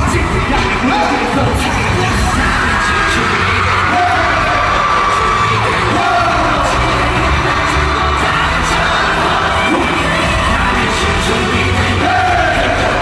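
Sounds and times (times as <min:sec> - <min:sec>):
crowd noise: 0:00.0 - 0:13.0
pop song through arena speakers: 0:00.0 - 0:13.0.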